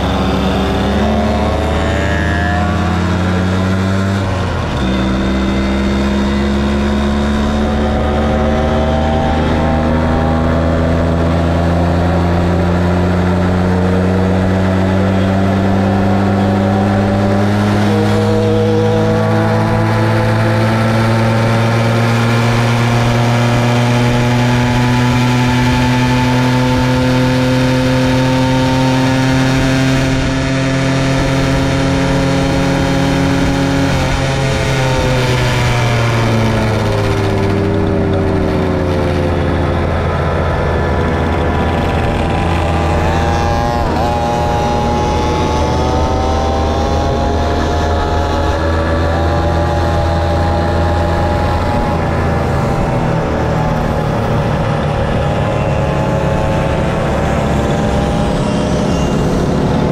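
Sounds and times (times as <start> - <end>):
moped engine accelerating: 0.0 - 59.9.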